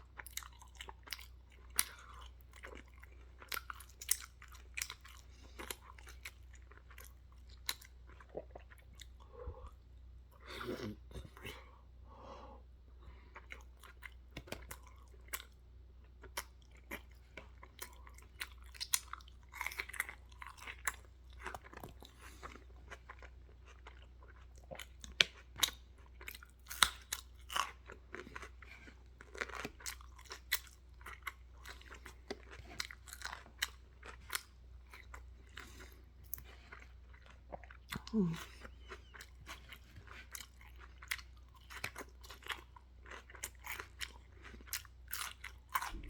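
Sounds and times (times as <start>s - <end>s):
person chewing food loudly: 0.0s - 11.8s, 13.1s - 46.0s.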